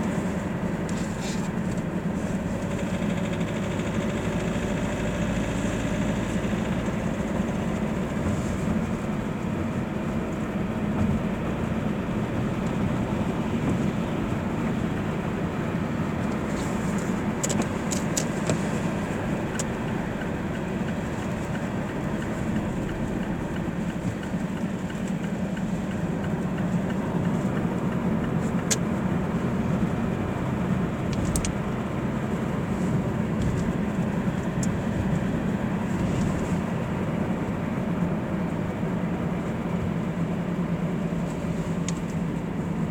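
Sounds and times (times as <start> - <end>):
car engine droning: 0.0 - 42.9.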